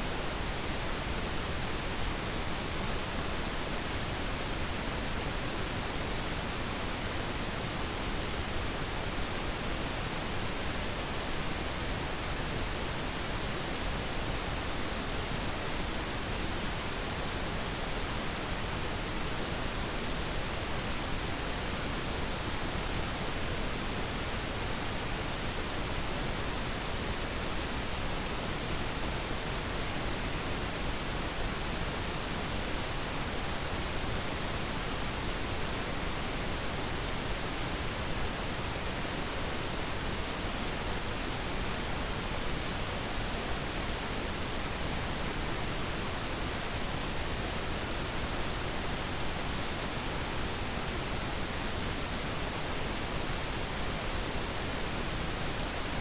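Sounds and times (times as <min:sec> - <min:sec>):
steady pink noise hiss: 0:00.0 - 0:56.0.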